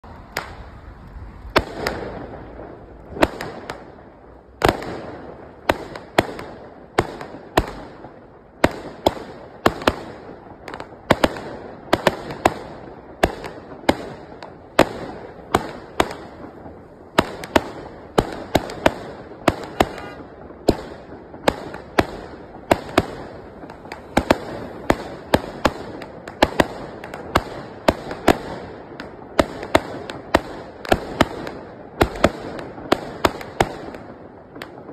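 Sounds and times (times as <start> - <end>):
firework bangs: 0.0 - 34.9
firework crackle: 0.0 - 34.9.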